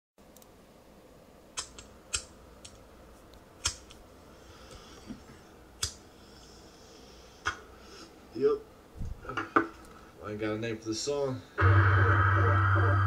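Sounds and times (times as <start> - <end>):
faint steady hiss: 0.2 - 13.0.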